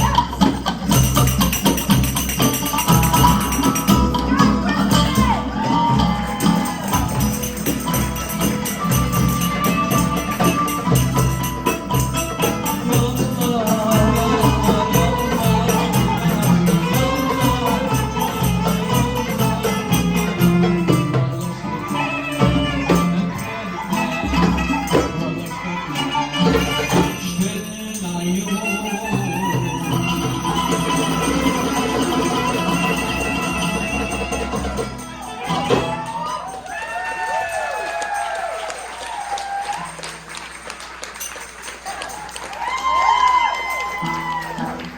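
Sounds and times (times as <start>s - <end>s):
fast percussion pulse: 0.0s - 44.9s
jingling hand percussion: 0.0s - 44.9s.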